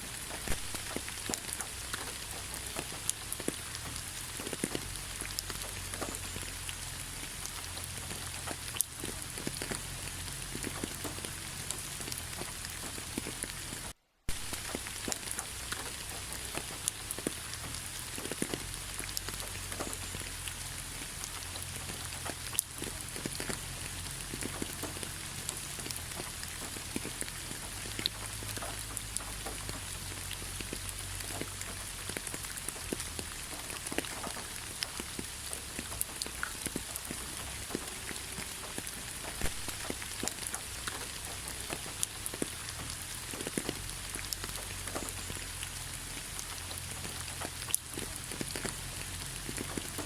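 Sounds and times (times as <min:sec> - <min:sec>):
rain hissing: 0:00.0 - 0:50.0
raindrops pattering: 0:00.0 - 0:50.0.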